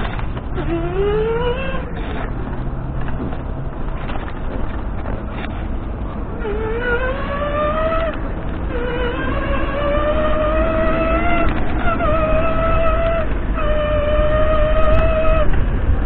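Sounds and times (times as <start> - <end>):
electric bike motor whining: 0.0 - 16.0.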